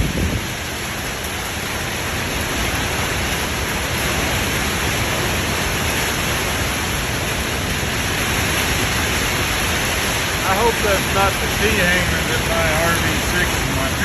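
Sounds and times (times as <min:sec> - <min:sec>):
rain: 0:00.0 - 0:14.0
strong storm wind rushing: 0:00.0 - 0:14.0
wind rumbling on microphone: 0:00.0 - 0:14.0.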